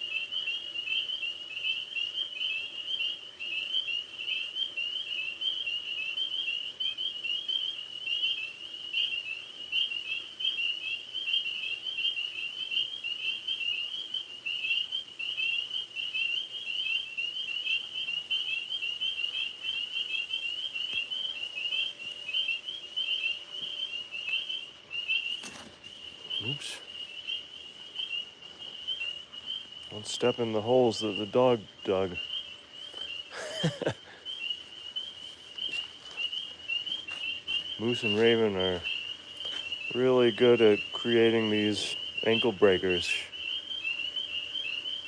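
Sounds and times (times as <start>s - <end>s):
tree frogs chorus: 0.0s - 45.0s.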